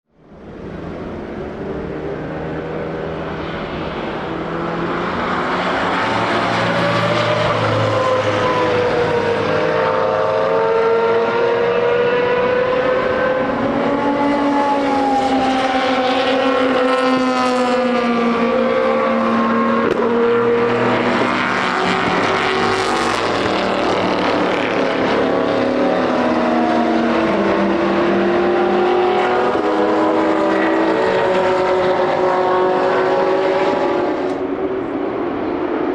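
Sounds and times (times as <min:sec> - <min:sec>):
racing car engines: 0:00.1 - 0:35.9.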